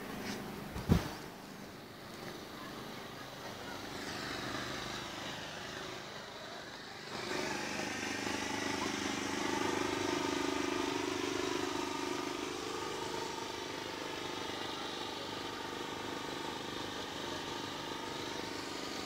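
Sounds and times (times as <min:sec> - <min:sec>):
small engine droning hum: 0:00.0 - 0:19.0.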